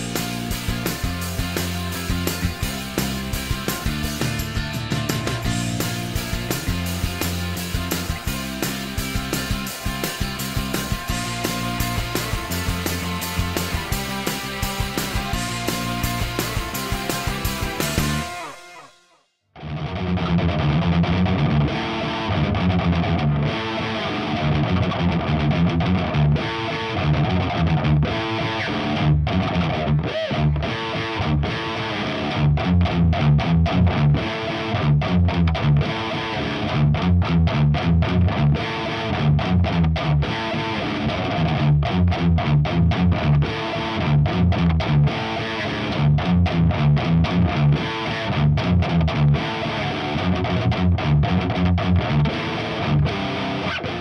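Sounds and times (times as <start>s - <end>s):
distorted electric guitar riffing: 0.0s - 54.0s.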